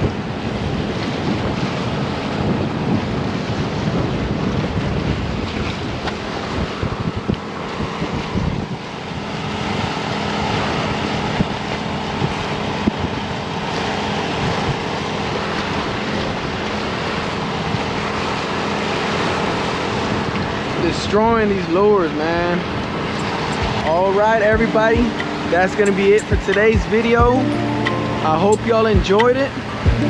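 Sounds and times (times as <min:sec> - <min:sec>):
waves washing against dike: 0:00.0 - 0:30.0
wind buffeting microphone: 0:00.0 - 0:30.0.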